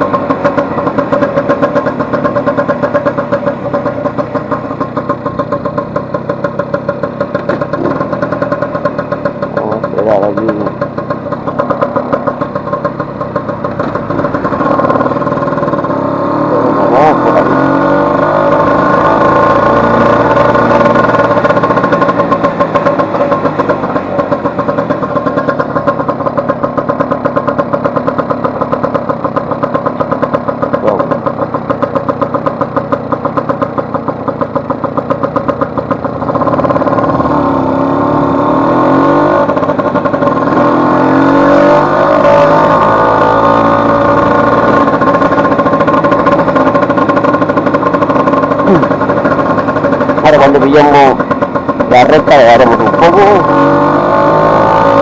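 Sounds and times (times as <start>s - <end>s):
scooter engine running: 0.0s - 55.0s.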